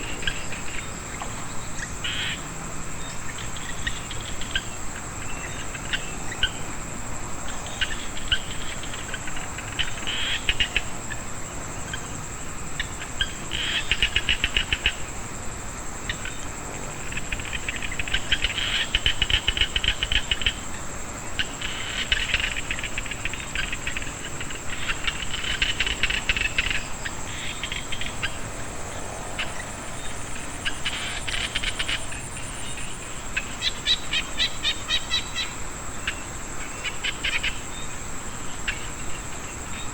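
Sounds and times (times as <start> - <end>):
frogs calling in pulsed trills: 0.0 - 6.8, 7.4 - 15.2, 16.0 - 39.9
high-pitched insect trill: 0.0 - 39.9.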